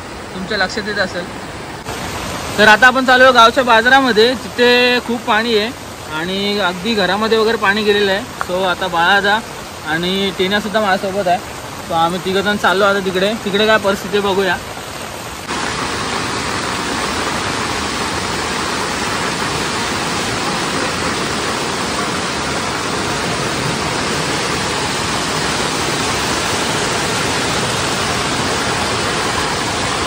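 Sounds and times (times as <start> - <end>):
flood stream rushing: 0.0 - 30.0.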